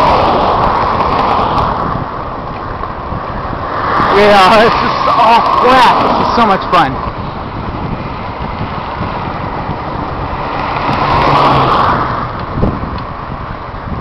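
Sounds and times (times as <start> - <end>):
road noise: 0.0 - 14.0
wind rushing: 0.0 - 14.0.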